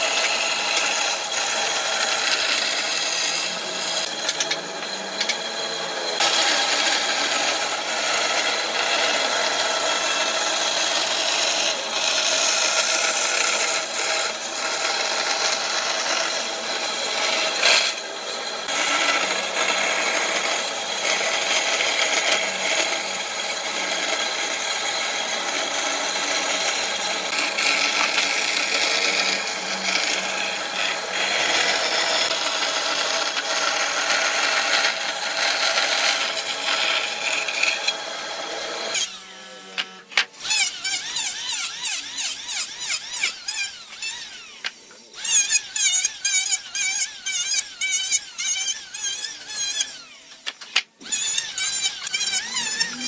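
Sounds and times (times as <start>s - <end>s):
power tool rasping wood: 0.0s - 53.0s.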